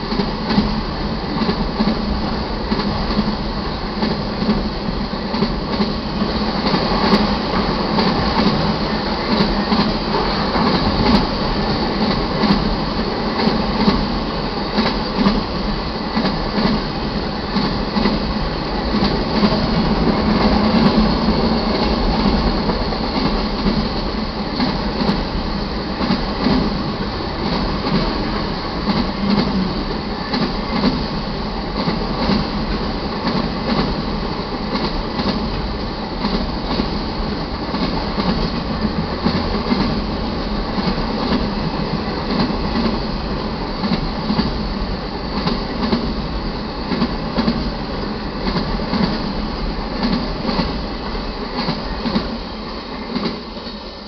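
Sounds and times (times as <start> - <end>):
wheels clicking over rail joints: 0.0 - 52.4
freight train rumbling past: 0.0 - 54.0.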